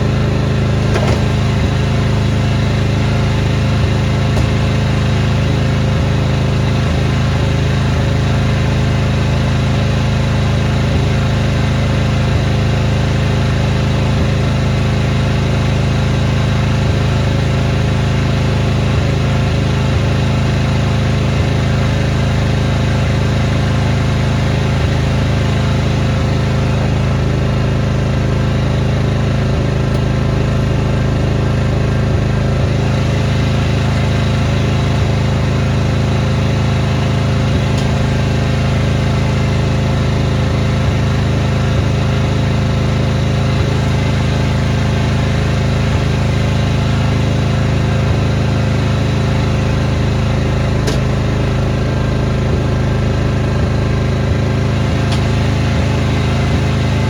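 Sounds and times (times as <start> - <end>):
snowblower engine running: 0.0 - 57.0.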